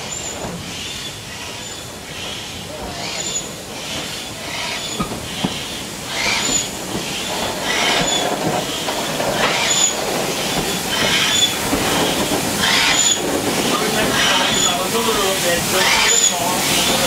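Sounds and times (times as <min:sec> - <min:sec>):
locomotive rumbling on rails: 0:00.0 - 0:17.0
steam exhaust bursts: 0:01.8 - 0:17.0.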